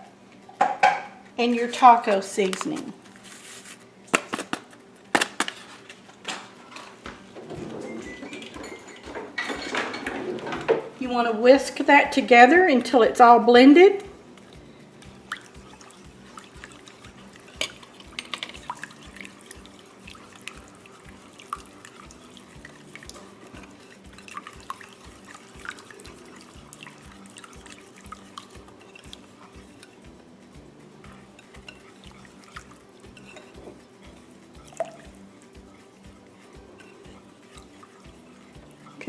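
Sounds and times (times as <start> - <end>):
whisk tapping against dish: 4.1 - 39.0
whisk squishing creamy mixture: 7.6 - 39.0.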